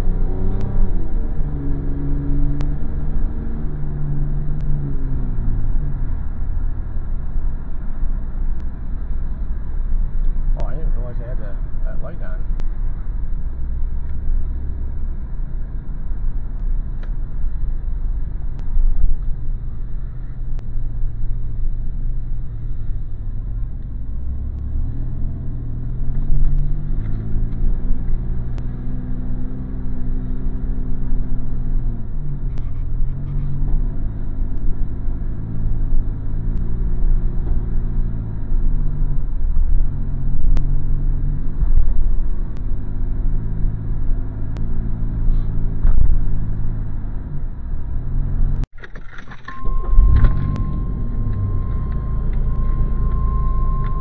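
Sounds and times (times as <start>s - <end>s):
car engine: 0.0s - 54.0s
road rumble: 0.0s - 54.0s.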